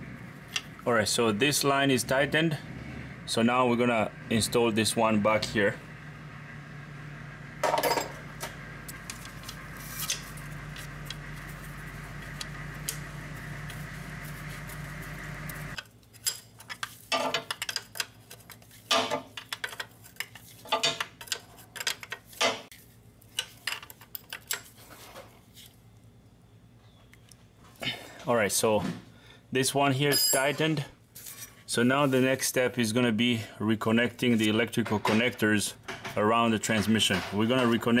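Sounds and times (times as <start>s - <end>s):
steady background hum: 0.0s - 38.0s.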